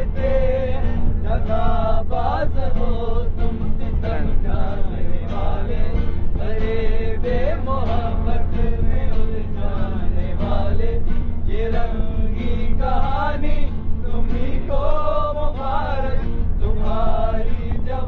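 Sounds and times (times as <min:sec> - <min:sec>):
men singing together: 0:00.0 - 0:18.0
steady low rumble: 0:00.0 - 0:18.0
strummed acoustic guitar: 0:00.0 - 0:18.0.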